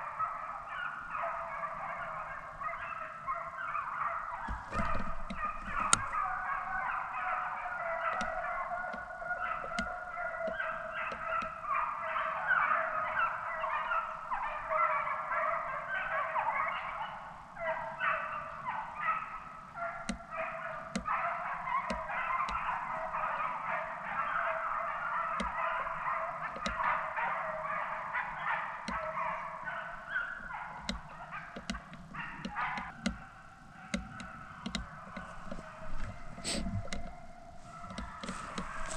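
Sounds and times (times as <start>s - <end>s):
hounds baying: 0.0s - 38.9s.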